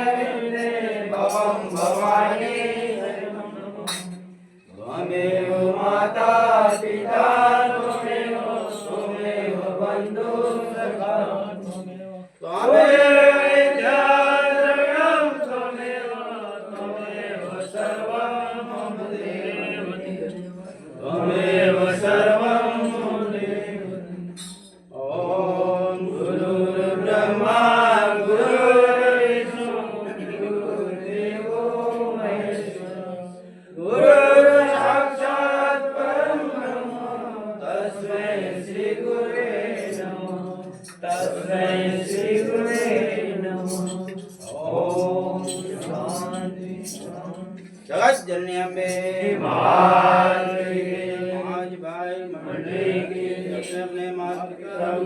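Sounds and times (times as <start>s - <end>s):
men chanting devotional song: 0.0s - 55.0s.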